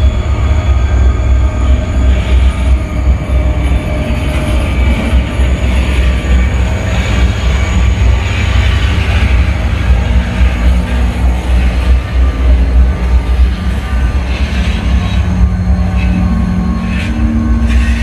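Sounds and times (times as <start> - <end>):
locomotive throbbing rumble: 0.0 - 18.0
wagons rolling on rails: 1.2 - 18.0.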